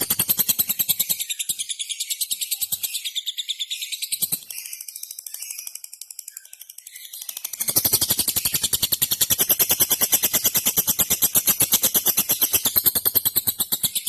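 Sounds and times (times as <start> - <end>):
lovebird chattering song: 0.0 - 14.0.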